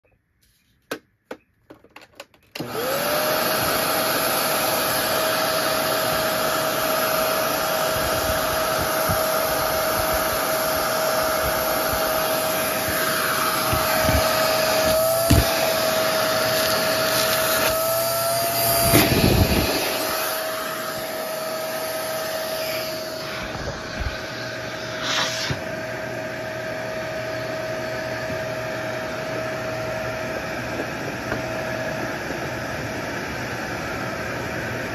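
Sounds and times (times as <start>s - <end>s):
vacuum cleaner motor whine: 2.6s - 34.9s.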